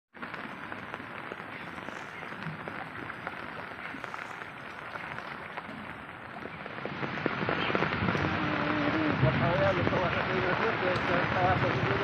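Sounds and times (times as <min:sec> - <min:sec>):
rain falling on water: 0:00.1 - 0:12.0.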